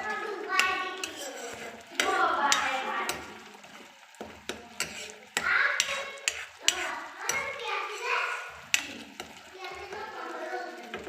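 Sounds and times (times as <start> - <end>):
children's voices: 0.0 - 3.7, 4.6 - 11.0
utensil scraping cooking pan: 0.0 - 11.0.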